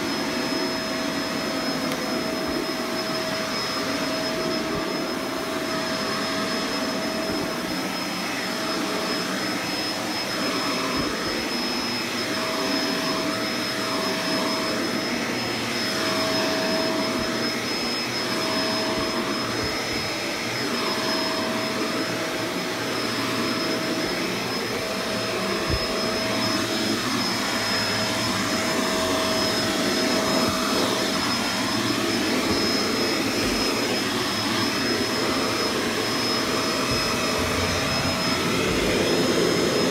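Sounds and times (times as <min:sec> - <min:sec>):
vacuum cleaner on carpet: 0:00.0 - 0:39.9.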